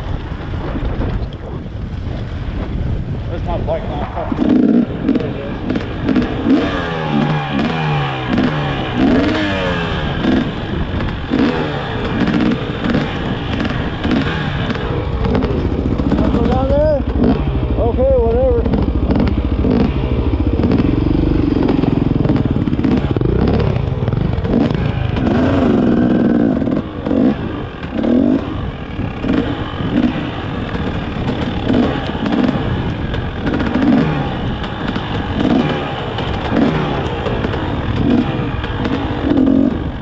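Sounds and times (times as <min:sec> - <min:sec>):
dirt bike engine revving: 0:02.8 - 0:40.0.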